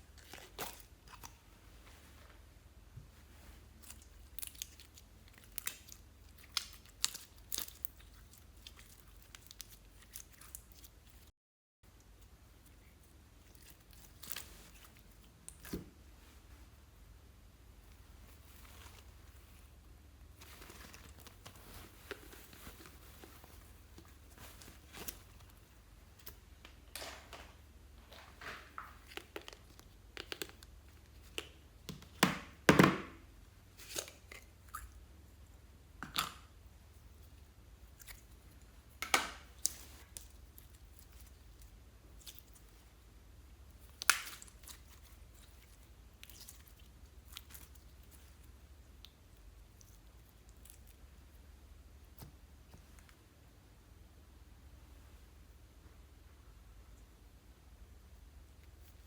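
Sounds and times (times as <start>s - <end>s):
slime squishing: 0.0s - 2.3s, 3.1s - 11.3s, 11.9s - 16.9s, 17.7s - 32.6s, 36.0s - 53.2s.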